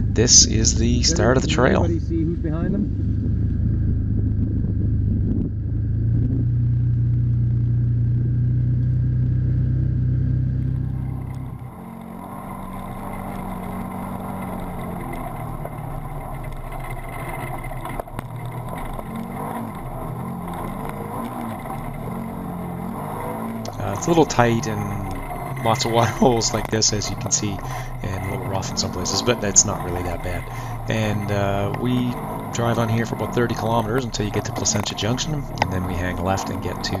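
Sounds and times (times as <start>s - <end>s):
off-road vehicle engine running: 0.0s - 37.0s.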